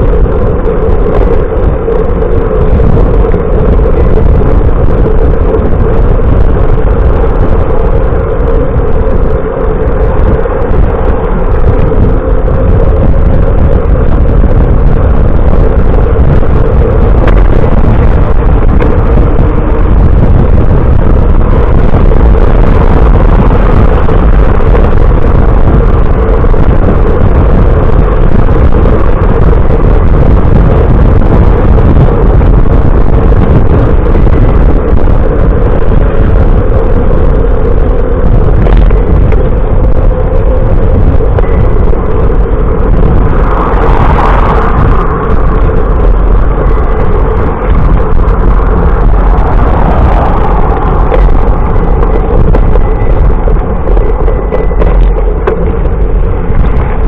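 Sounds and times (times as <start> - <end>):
constant hum: 0.0 - 57.0
rumbling road noise: 0.0 - 57.0.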